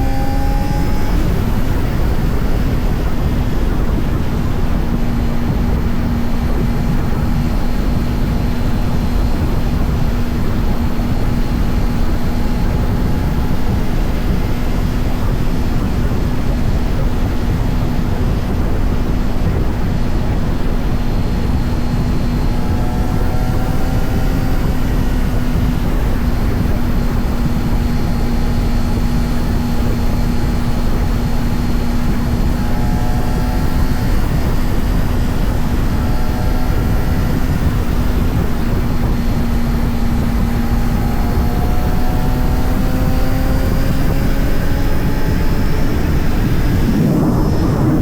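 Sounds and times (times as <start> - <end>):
motorcycle engine cruising: 0.0 - 48.0
wind noise on microphone: 0.0 - 48.0.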